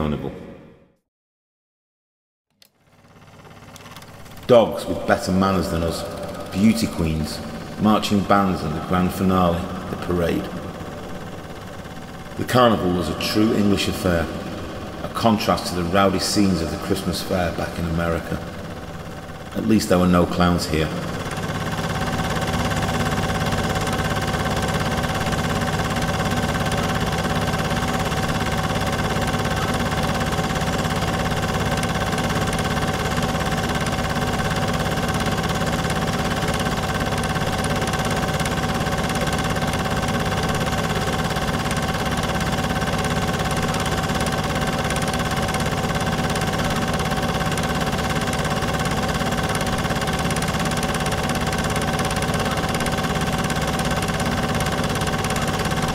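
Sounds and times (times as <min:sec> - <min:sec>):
film projector running: 0:02.6 - 0:55.9.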